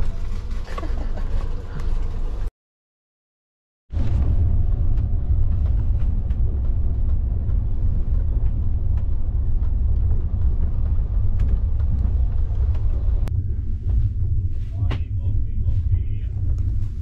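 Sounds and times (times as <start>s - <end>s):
train rumbling: 0.0s - 2.5s, 3.9s - 17.0s.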